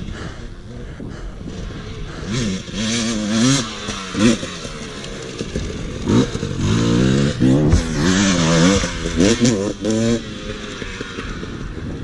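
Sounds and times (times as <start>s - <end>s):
dirt bike engine revving: 0.1s - 12.0s.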